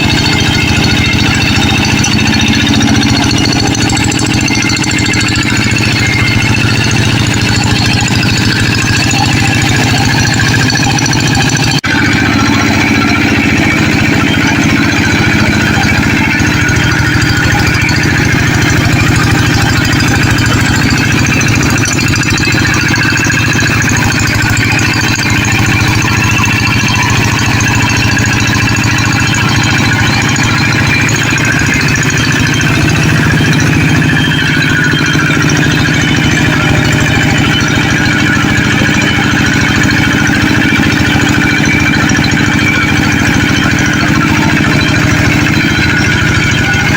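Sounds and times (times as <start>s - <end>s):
tractor engine chugging: 0.0s - 46.9s.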